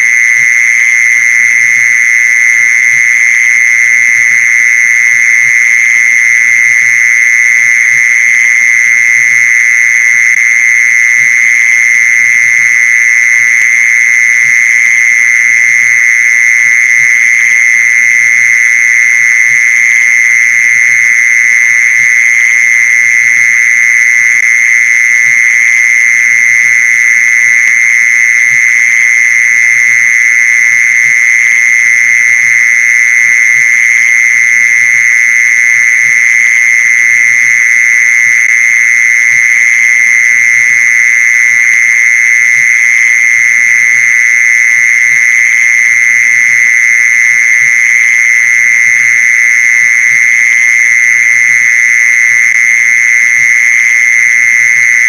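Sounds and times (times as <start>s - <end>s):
mole cricket trill: 0.0s - 55.0s.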